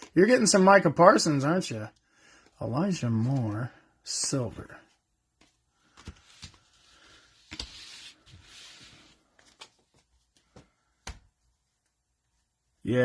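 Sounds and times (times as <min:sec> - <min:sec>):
cards rustling: 0:00.0 - 0:11.9.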